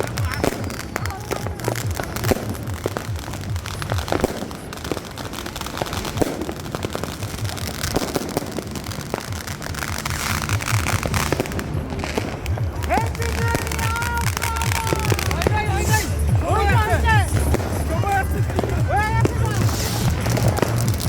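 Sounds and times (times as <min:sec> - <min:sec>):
fireworks and firecrackers banging: 0:00.0 - 0:21.0.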